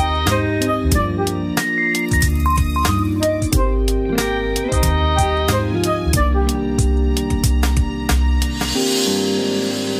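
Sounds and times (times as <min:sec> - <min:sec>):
music with steady beat and deep bass: 0:00.0 - 0:09.9.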